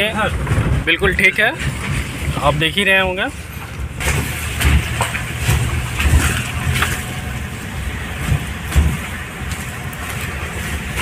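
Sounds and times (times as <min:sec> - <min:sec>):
diesel engine running in car: 0:00.0 - 0:11.0.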